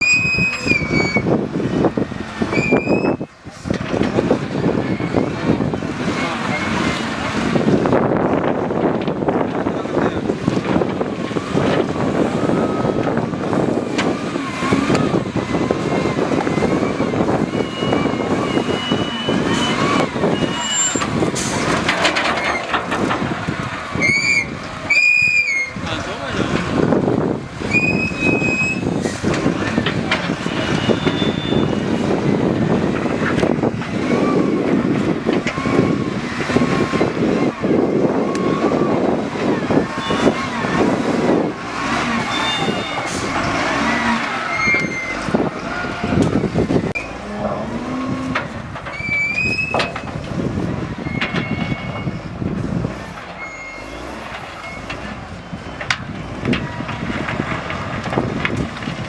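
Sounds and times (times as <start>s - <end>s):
heavy vehicle engine running: 0.0s - 59.0s
steady outdoor noise: 0.0s - 59.0s
voices: 0.3s - 52.2s.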